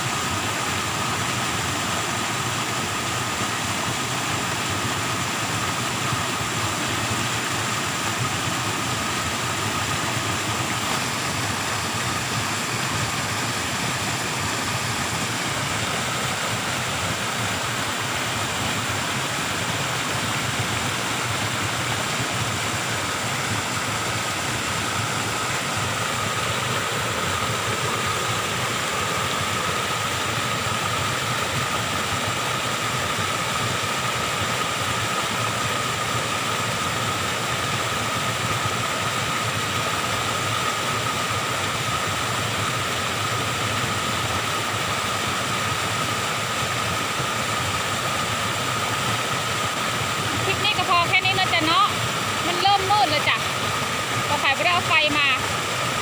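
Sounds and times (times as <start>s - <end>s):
waterfall pouring over rocks: 0.0s - 56.0s.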